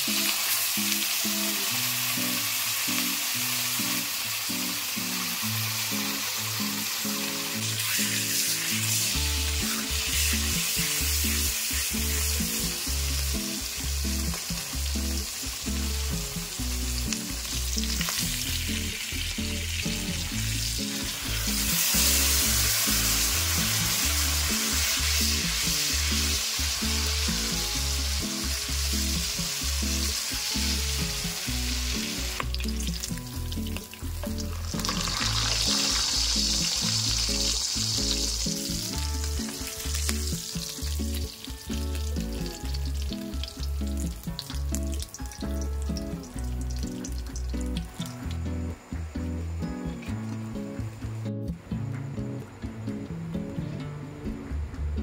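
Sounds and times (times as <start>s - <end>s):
meat sizzling in a frying pan: 0.0s - 48.4s
music with stepped bass line: 9.0s - 55.0s.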